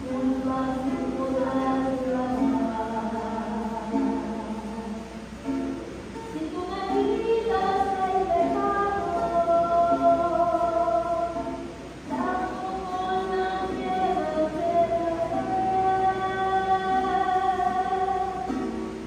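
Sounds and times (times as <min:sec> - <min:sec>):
voices singing a hymn: 0:00.0 - 0:05.4, 0:06.4 - 0:18.6.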